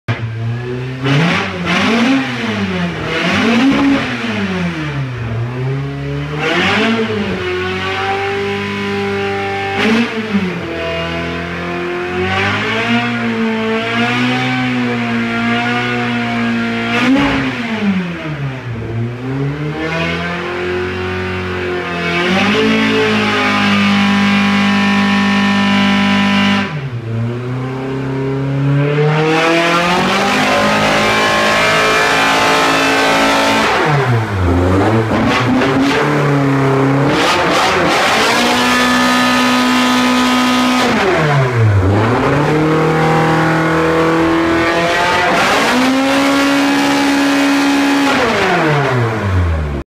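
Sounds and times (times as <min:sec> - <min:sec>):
race engine revving: 0:00.1 - 0:49.8.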